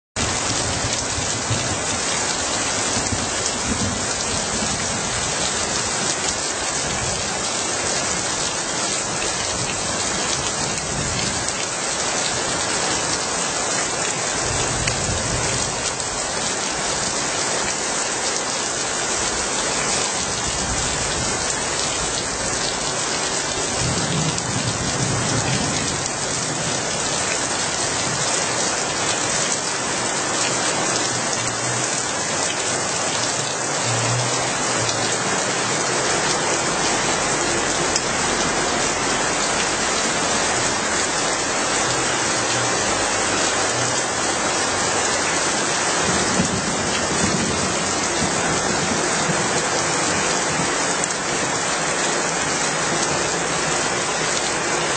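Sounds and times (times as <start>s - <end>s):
rain splashing on street: 0.2s - 54.9s.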